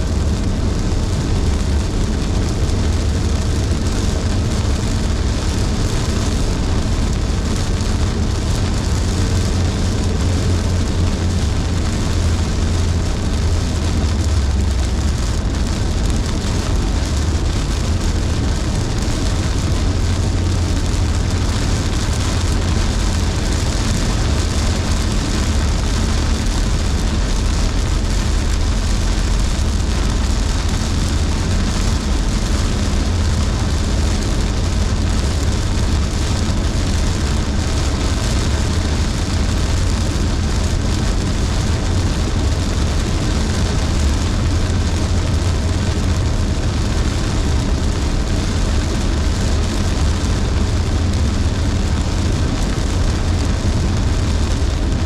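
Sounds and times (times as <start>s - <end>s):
rain hitting car: 0.0s - 55.0s
road rumble: 0.0s - 55.0s
tyres hissing on wet pavement: 0.1s - 55.0s.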